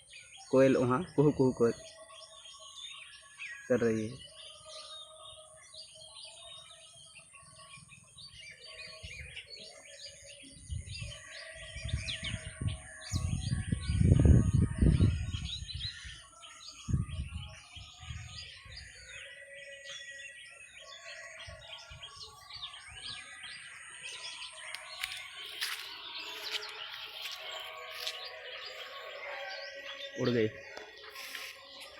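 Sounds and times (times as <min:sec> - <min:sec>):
birds chirping and calling: 0:00.0 - 0:31.9.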